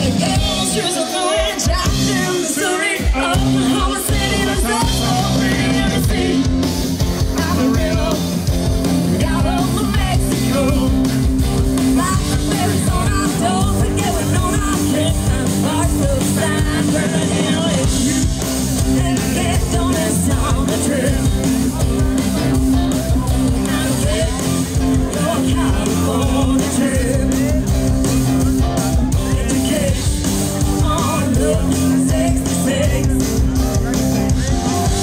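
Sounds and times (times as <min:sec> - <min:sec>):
rock music with guitar and singing: 0:00.0 - 0:35.0.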